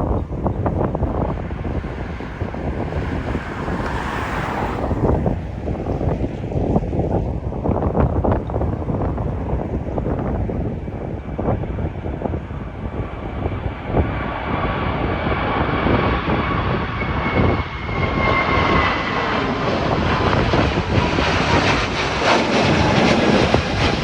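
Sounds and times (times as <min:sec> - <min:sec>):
jet airliner taking off: 0:00.0 - 0:24.0.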